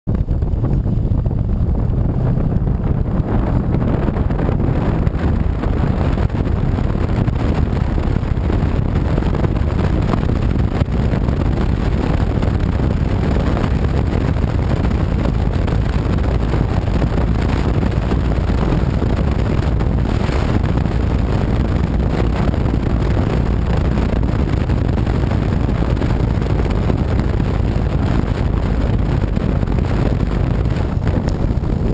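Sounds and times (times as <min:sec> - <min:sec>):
motorcycle engine running: 0:00.1 - 0:31.9
wind buffeting microphone: 0:00.1 - 0:31.9.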